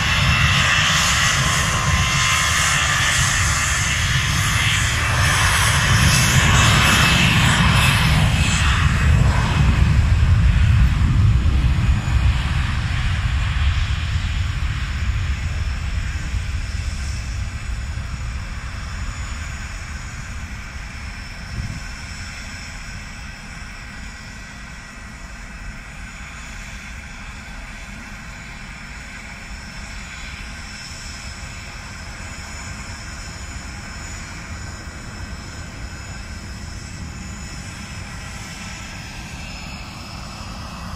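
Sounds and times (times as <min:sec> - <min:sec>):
jet engines roaring at takeoff: 0:00.0 - 0:40.9.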